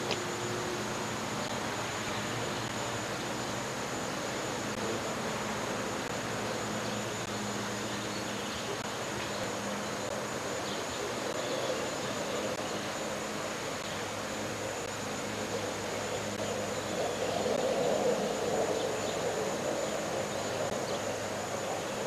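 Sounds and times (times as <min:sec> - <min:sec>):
constant high whine: 0:00.0 - 0:22.0
faint outdoor background: 0:00.0 - 0:22.0
tape hiss: 0:00.0 - 0:22.0.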